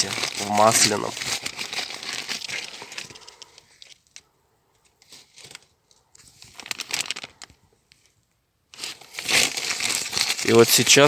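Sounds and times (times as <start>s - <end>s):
paper crinkling: 0.0s - 4.3s, 5.0s - 11.0s.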